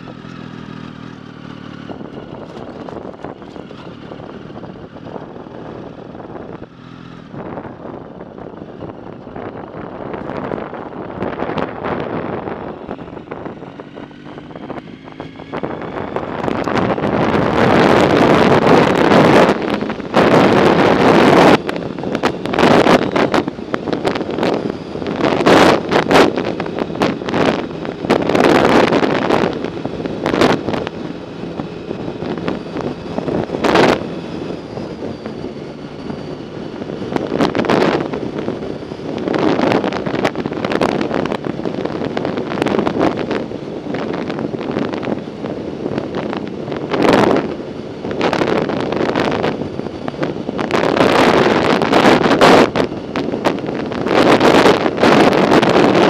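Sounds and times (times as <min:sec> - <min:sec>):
wind buffeting microphone: 0:01.7 - 0:56.0.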